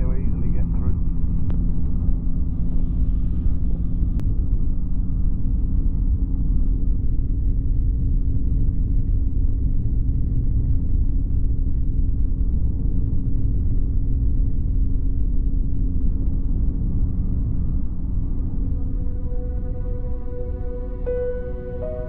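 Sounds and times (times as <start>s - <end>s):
aircraft engine droning: 0.0s - 7.5s, 9.3s - 22.0s
wind rumble on microphone: 0.0s - 22.0s.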